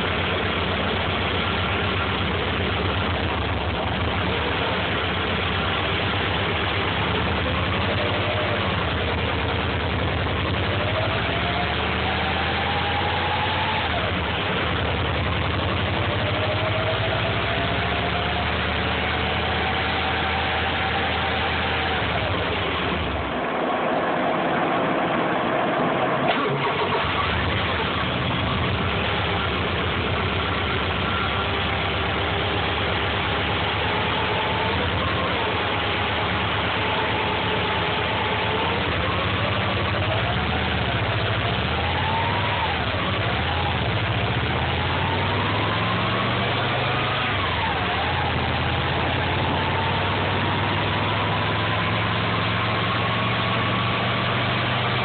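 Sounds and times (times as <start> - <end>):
car engine running: 0.0 - 55.0
whining tone: 0.0 - 55.0.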